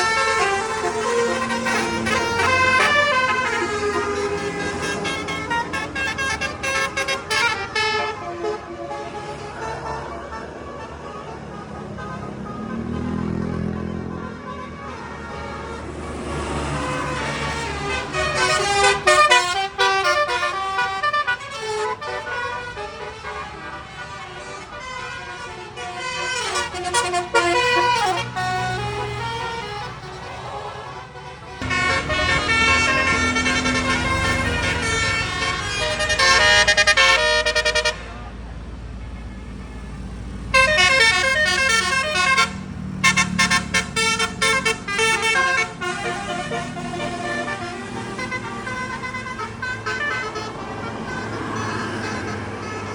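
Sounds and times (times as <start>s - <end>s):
multi-tone musical bus horn: 0.0s - 52.9s.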